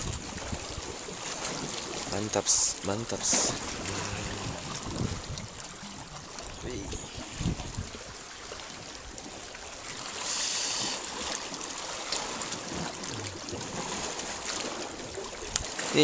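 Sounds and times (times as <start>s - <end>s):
seawater washing around rocks: 0.0s - 16.0s.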